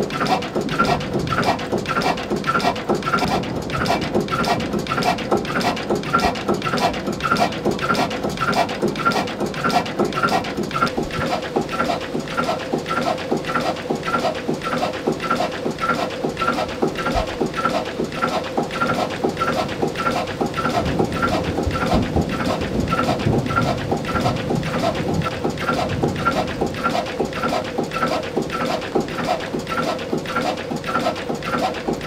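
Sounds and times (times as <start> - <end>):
diesel engine clattering: 0.1 - 32.0.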